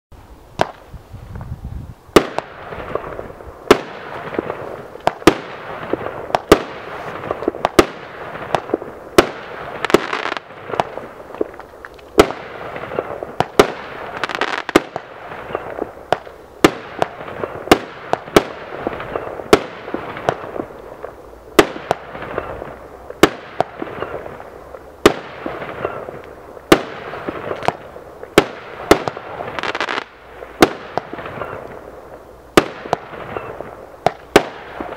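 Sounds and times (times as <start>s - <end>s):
fireworks hissing: 0.2s - 34.9s
fireworks bangs: 2.1s - 34.9s.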